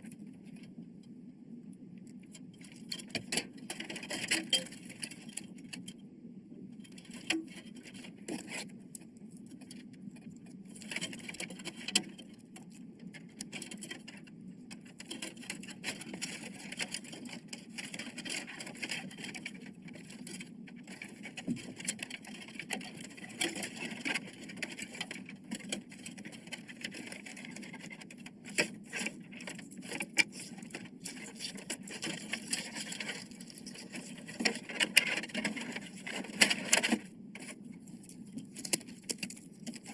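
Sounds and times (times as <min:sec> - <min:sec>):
hard parts clicking and scraping: 0:02.1 - 0:06.0, 0:06.8 - 0:39.9.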